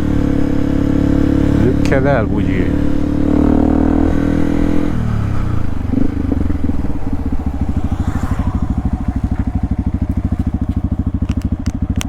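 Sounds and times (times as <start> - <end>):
motorcycle engine slowing and idling: 0.0 - 12.0.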